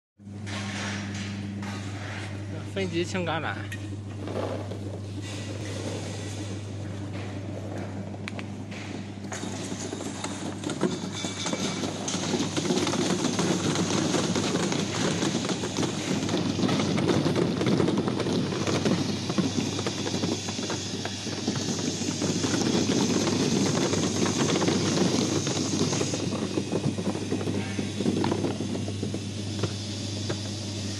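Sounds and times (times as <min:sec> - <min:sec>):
electric motor hum: 0:00.3 - 0:30.9
olives rattling on metal rollers: 0:00.4 - 0:30.9.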